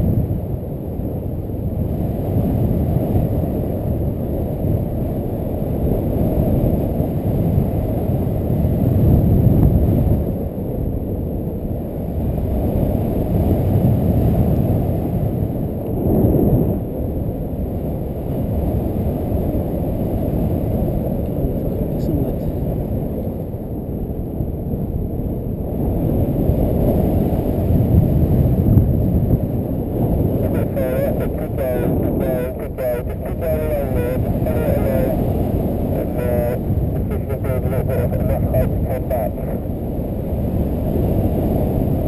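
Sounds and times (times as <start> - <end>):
wind rumbling on microphone: 0.0 - 42.0.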